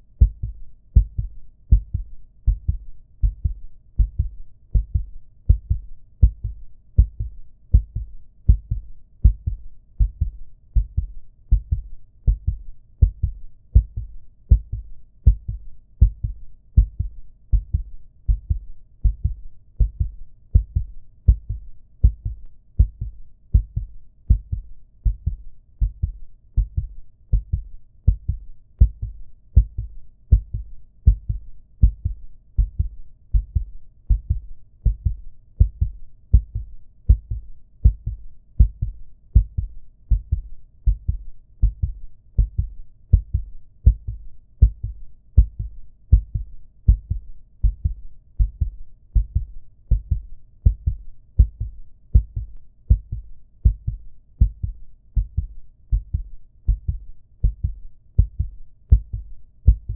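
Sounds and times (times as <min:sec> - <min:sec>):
heartbeat thumps: 0:00.2 - 0:59.9.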